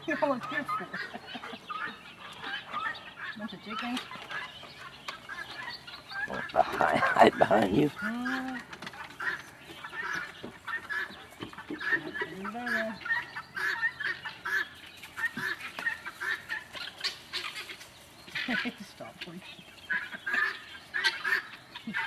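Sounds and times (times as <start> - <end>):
chickens clucking: 0.0 - 22.0
drawn-out chicken call: 0.0 - 22.0.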